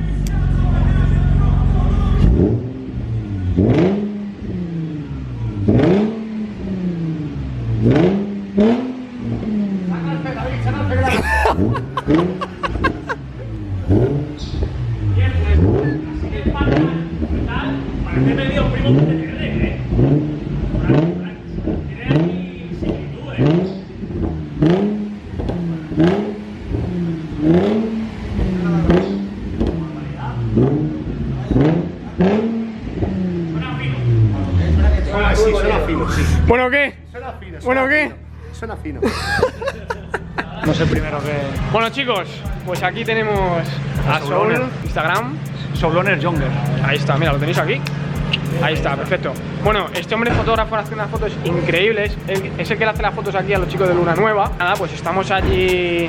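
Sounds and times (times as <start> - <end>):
car engine revving: 0.0 - 38.8, 40.1 - 56.0.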